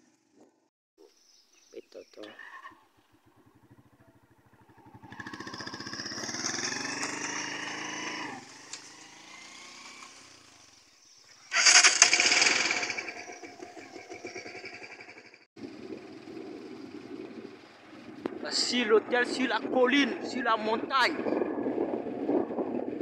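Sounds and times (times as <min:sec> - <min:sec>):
motorcycle engine idling and revving: 0:00.0 - 0:00.7, 0:02.8 - 0:23.0.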